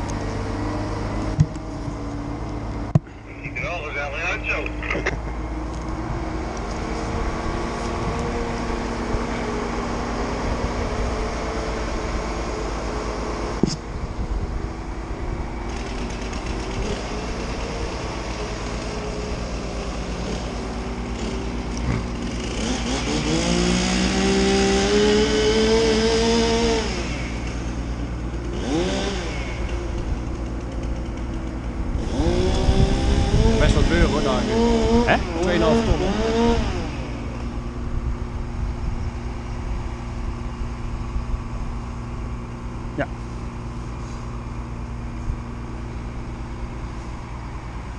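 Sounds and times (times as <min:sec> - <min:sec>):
crane diesel engine running: 0:00.0 - 0:47.9.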